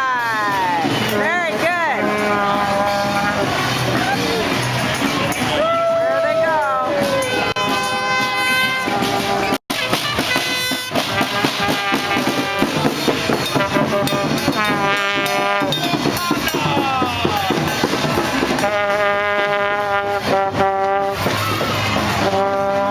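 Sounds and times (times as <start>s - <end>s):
brass music: 0.1s - 22.9s
trombone slides: 0.6s - 5.6s, 7.0s - 22.9s.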